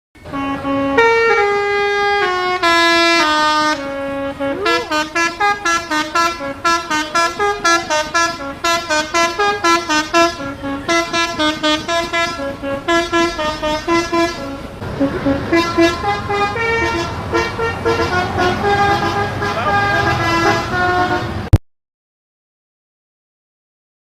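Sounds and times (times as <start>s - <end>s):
horn playing a tune: 0.2s - 21.6s.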